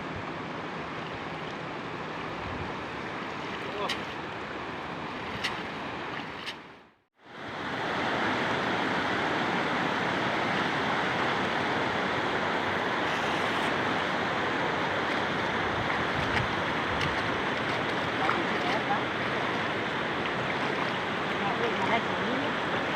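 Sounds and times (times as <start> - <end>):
water rushing: 0.0 - 22.9.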